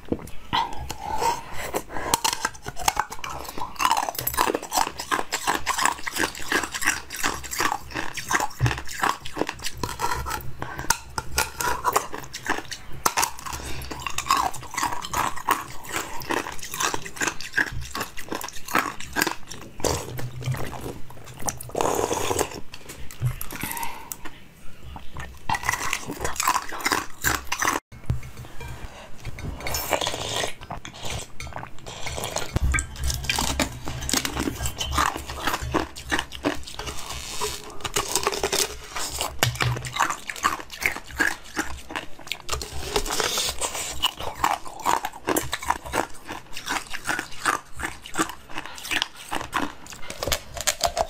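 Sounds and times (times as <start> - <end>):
biting and crunching food: 0.0 - 51.0
wet chewing: 0.0 - 51.0.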